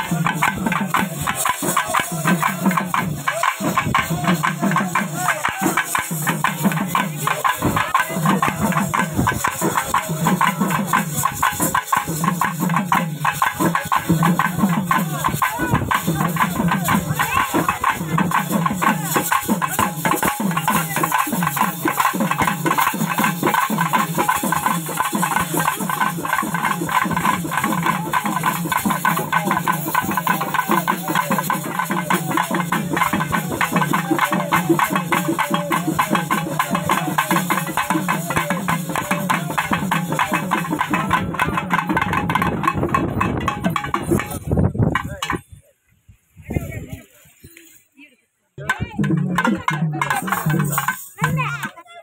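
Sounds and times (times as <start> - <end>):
fast continuous drumming: 0.0 - 45.6, 48.6 - 52.0
rattling percussion: 0.0 - 45.7, 48.6 - 52.0.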